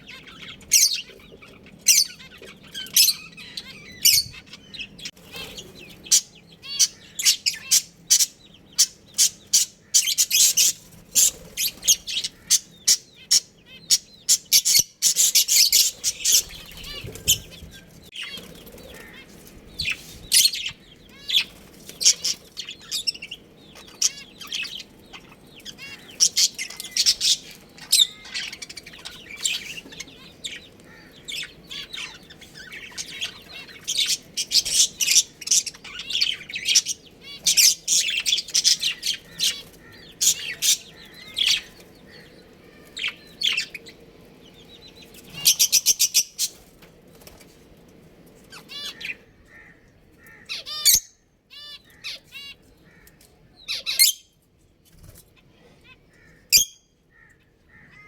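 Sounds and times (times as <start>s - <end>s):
budgerigars chirping: 0.0s - 46.7s, 48.5s - 54.3s, 56.2s - 58.0s.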